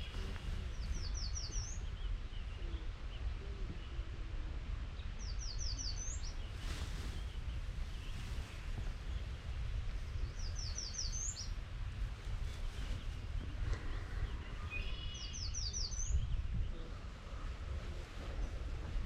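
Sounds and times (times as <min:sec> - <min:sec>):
songbird singing: 0:00.0 - 0:19.0
steady low rumble: 0:00.0 - 0:19.0.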